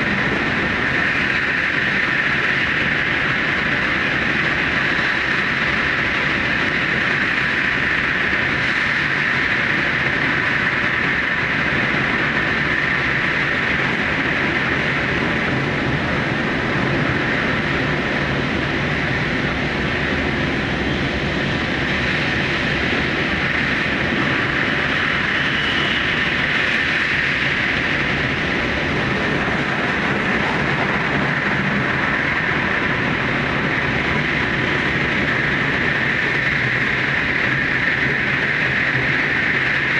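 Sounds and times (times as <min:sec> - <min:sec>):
electric train running in tunnel: 0:00.0 - 0:39.9.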